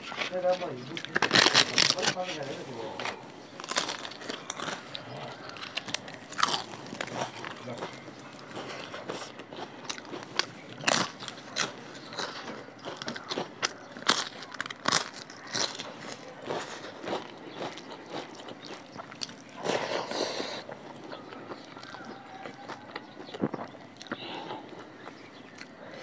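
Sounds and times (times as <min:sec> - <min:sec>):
crunching and chewing wafer: 0:00.0 - 0:26.0.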